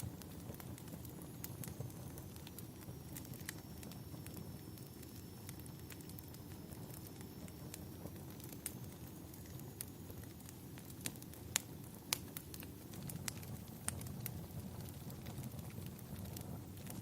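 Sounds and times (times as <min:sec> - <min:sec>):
fire pops and snaps: 0:00.0 - 0:17.0
rumble of flames: 0:00.0 - 0:17.0.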